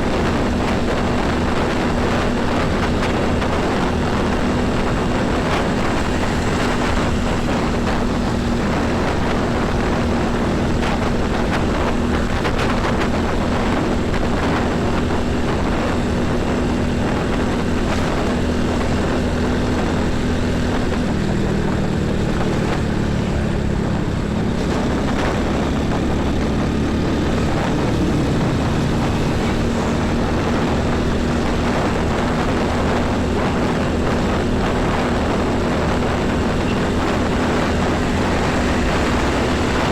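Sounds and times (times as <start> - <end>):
heavy road traffic drone: 0.0 - 39.9.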